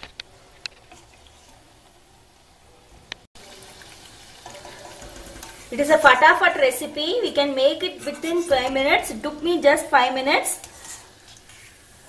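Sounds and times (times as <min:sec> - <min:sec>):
oil sizzling: 0:00.0 - 0:02.7, 0:03.3 - 0:12.0.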